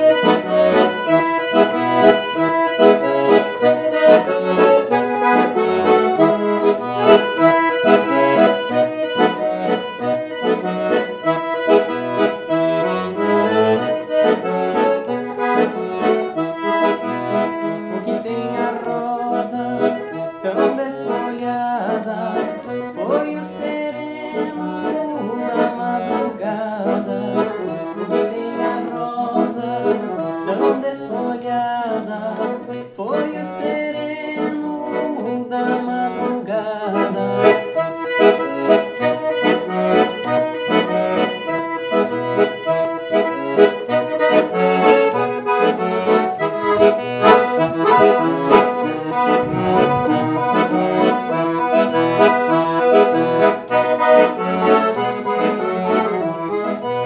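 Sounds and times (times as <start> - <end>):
accordion playing: 0.0 - 57.0.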